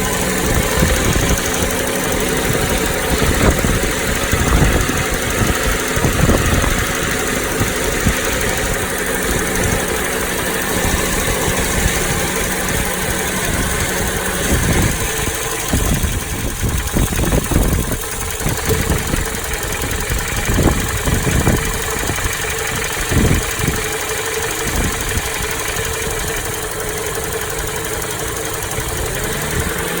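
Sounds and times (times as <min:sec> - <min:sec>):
engine idling with rattle: 0:00.0 - 0:30.0
wind buffeting microphone: 0:00.0 - 0:30.0.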